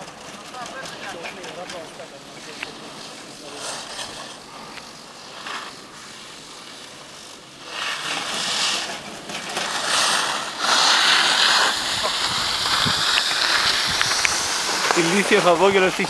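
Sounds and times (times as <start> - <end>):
skis carving over packed snow: 0.0 - 16.0.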